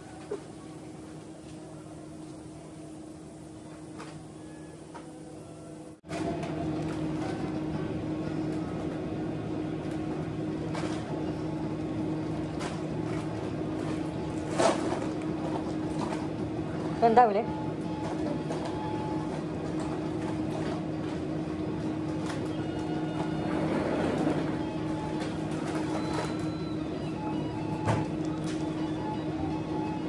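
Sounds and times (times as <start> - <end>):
kitchen equipment humming: 0.0 - 30.0.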